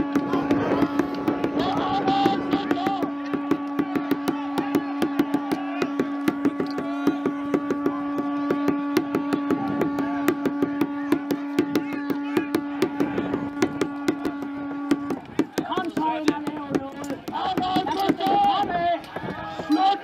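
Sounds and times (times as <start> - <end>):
steady droning tone: 0.0 - 18.2
people shouting: 0.0 - 20.0.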